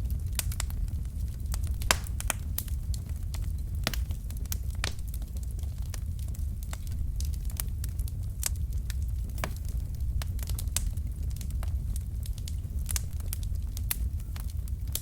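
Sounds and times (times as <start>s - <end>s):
low rumble of flame: 0.0s - 15.0s
wood fire popping and snapping: 0.0s - 15.0s.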